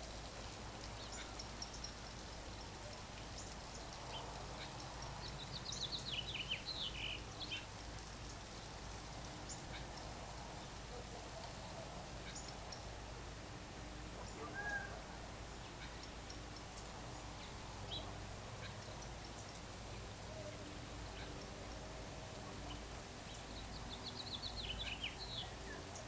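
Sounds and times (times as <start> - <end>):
birds chirping: 0.7 - 13.1, 14.2 - 26.0.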